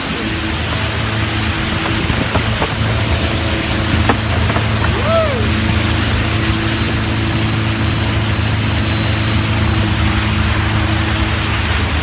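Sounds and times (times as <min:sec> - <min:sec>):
motorboat engine drone: 0:00.0 - 0:12.0
wind and water hiss: 0:00.0 - 0:12.0.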